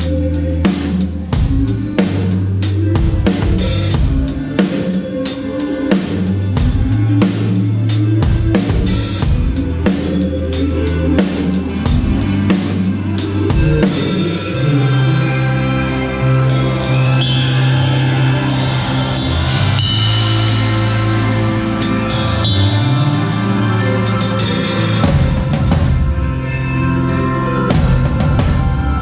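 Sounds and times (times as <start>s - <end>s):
band playing: 0.0s - 29.0s.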